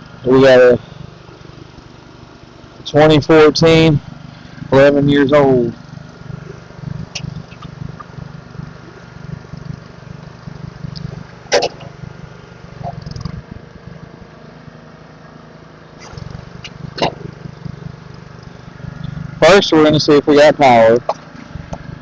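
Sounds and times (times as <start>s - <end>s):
low uneven engine rumble: 0.0s - 22.0s.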